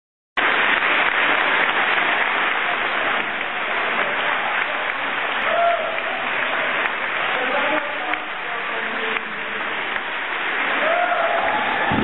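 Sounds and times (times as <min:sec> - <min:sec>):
audience applause: 0:00.4 - 0:12.0.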